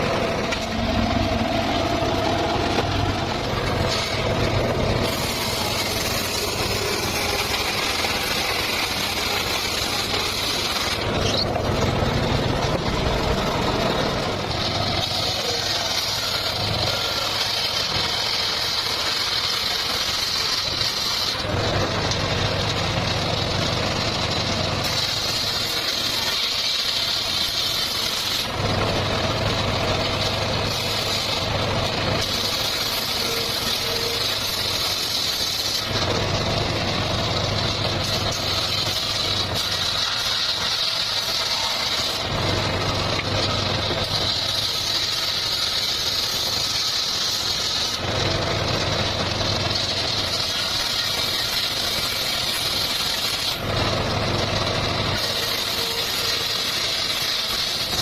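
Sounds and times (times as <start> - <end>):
circular saw running: 0.0 - 58.0.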